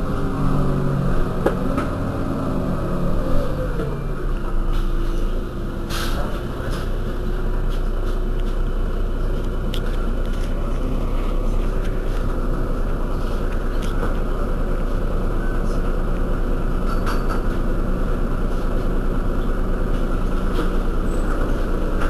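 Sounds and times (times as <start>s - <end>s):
bus diesel engine idling: 0.0s - 22.0s.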